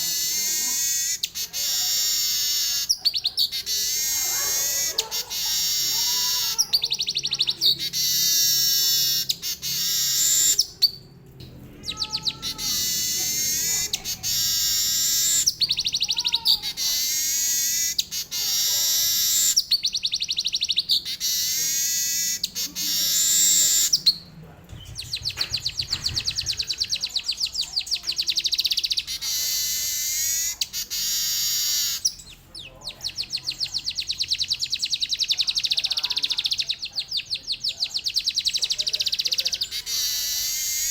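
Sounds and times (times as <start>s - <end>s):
bird singing rapid trills: 0.0s - 40.9s.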